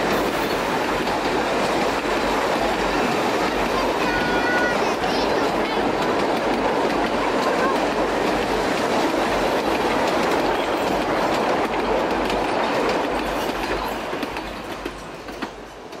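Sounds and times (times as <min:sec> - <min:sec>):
train carriages rumbling and rattling: 0:00.0 - 0:16.0.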